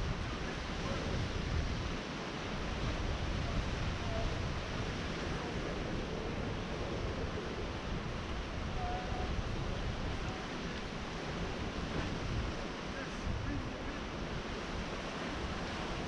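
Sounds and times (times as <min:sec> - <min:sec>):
sea waves breaking on shore: 0:00.0 - 0:16.0.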